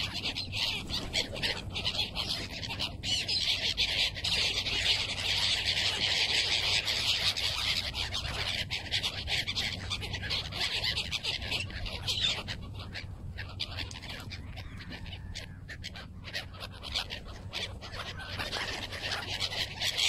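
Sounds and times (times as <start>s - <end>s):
flock of gulls calling: 0.0s - 20.0s.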